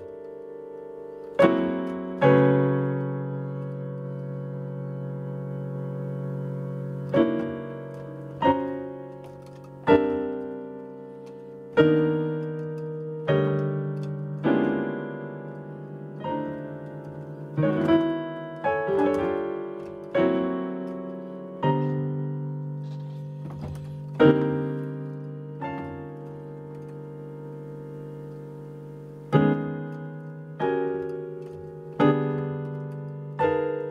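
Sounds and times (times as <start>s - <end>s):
digital piano chords: 0.0s - 33.9s.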